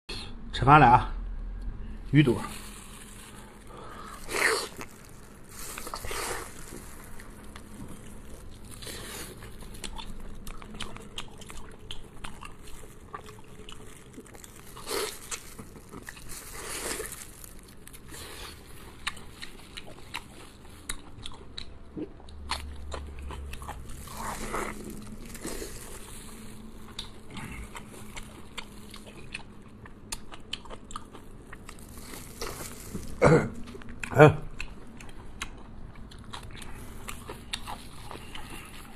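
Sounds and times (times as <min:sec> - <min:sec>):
person crunching and chewing: 0:02.3 - 0:38.9.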